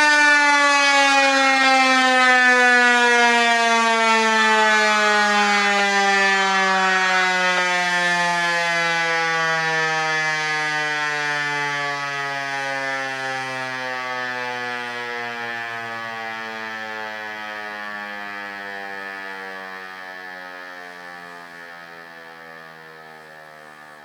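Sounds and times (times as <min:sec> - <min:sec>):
warning siren winding down: 0:00.0 - 0:24.0.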